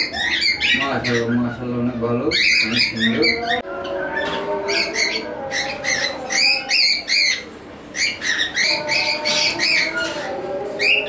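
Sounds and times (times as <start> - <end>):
cockatiels chirping: 0.0 - 1.6, 2.3 - 11.0.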